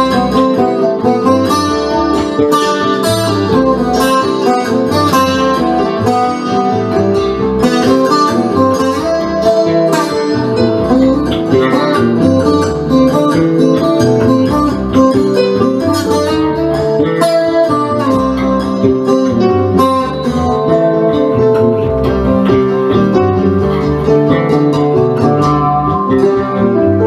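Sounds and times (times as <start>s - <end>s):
bass line: 0.0s - 27.0s
strummed acoustic guitar: 0.0s - 27.0s.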